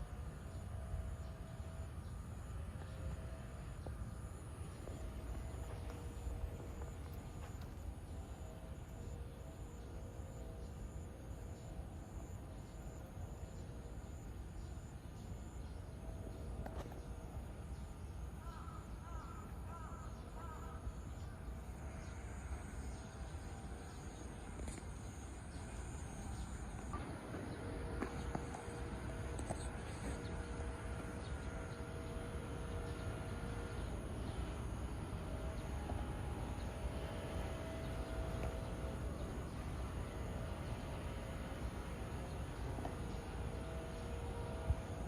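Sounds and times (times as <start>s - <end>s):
faint steady hum: 0.0s - 45.0s
outdoor background noise: 0.0s - 45.0s.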